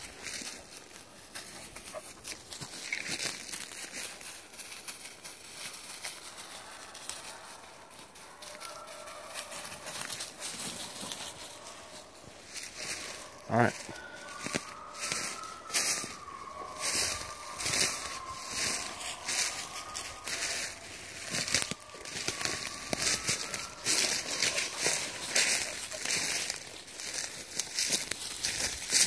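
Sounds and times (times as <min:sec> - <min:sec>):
footsteps on pine needles: 0:00.0 - 0:29.0
twigs and leaves crackling: 0:00.0 - 0:29.0.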